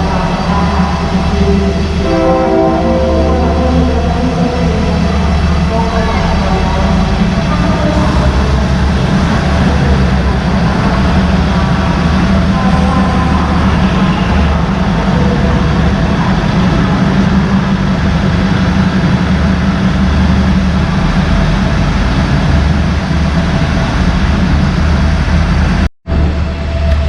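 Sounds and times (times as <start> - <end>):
diesel locomotive engine rumbling: 0.0 - 27.0.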